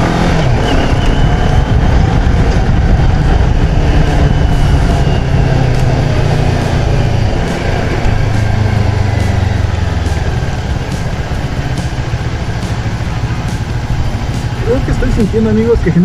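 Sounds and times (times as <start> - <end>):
wind noise: 0.0 - 15.9
motorcycle engine running: 0.0 - 16.0
road noise: 0.0 - 16.0.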